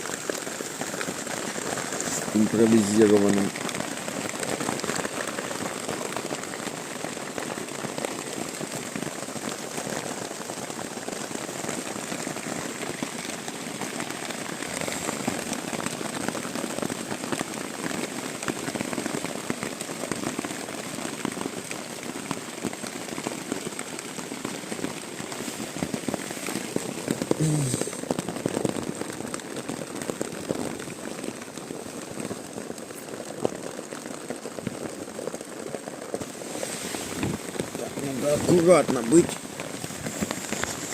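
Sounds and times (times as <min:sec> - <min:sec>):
rain crackling on shelter: 0:00.0 - 0:40.9.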